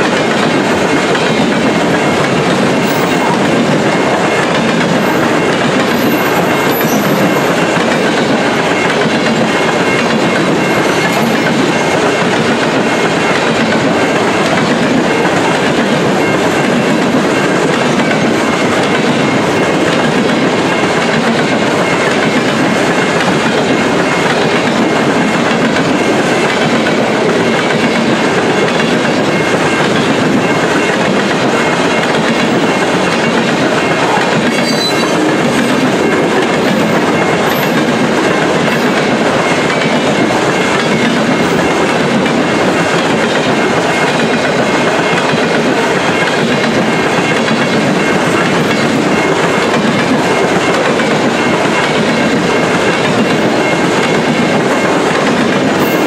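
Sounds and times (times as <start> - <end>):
steel wheels running on rails: 0.0 - 56.0.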